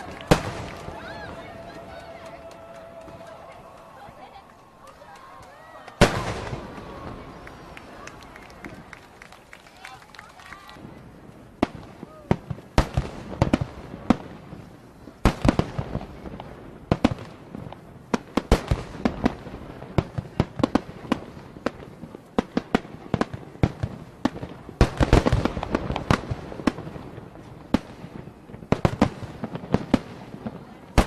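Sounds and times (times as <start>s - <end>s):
fireworks bangs and cracks: 0.0s - 31.0s
fireworks crackling: 0.0s - 31.0s.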